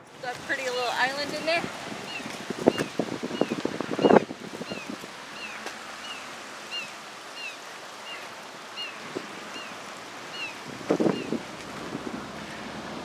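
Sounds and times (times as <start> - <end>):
fast-flowing river water: 0.0 - 13.0
light wind: 0.0 - 13.0.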